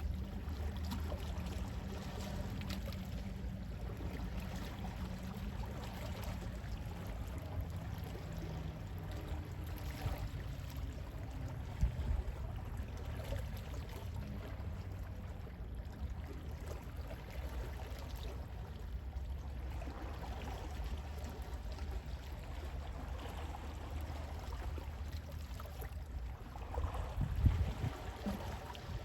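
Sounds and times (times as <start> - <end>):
gentle sea waves washing in: 0.0 - 29.0.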